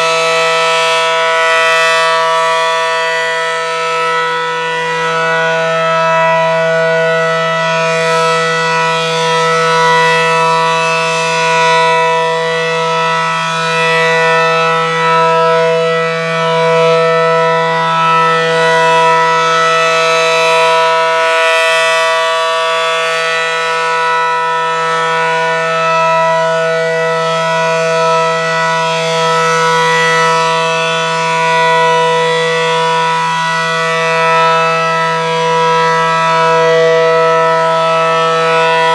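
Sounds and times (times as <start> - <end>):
low-pitched warning siren: 0.0 - 38.9.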